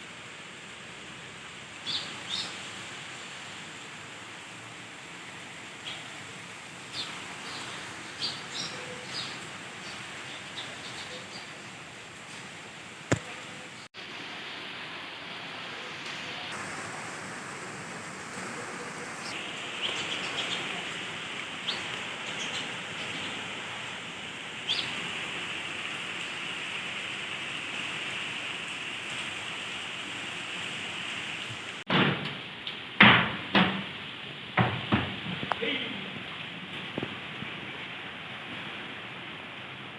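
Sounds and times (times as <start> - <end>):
steady outdoor hiss: 0.0 - 39.9.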